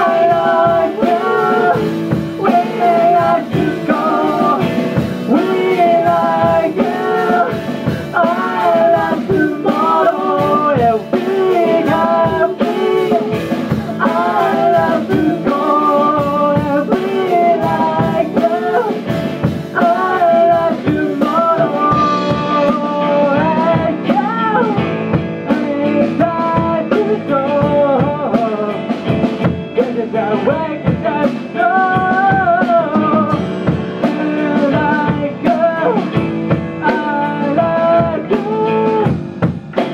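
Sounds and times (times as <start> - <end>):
person singing: 0.0 - 39.2
rock band playing: 0.0 - 39.9.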